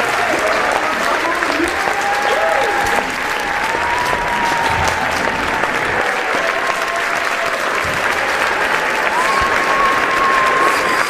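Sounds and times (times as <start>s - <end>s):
audience applauding: 0.0s - 11.0s
crowd cheering: 0.0s - 11.0s.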